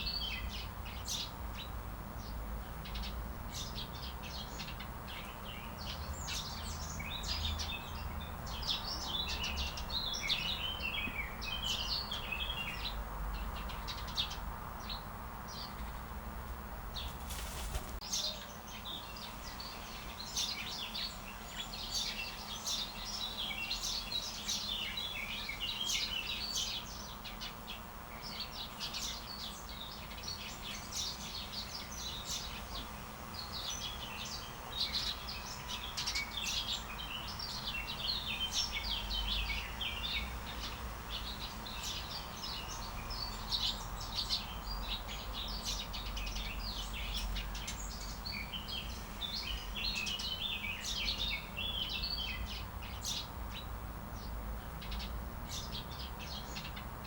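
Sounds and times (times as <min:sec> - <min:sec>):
small birds chirping and trilling: 0:00.0 - 0:57.0.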